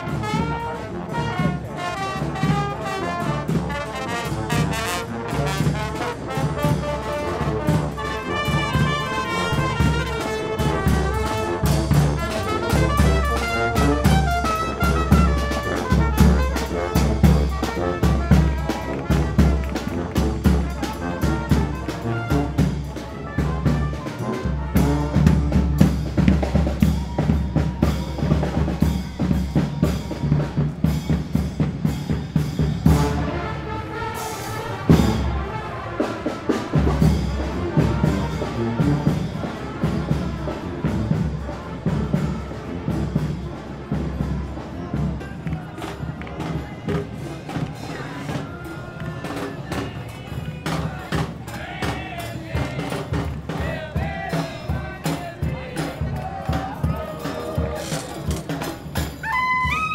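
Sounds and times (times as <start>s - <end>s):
marching drums beat: 0.0s - 33.5s, 34.6s - 59.9s
brass band horns: 0.0s - 59.9s.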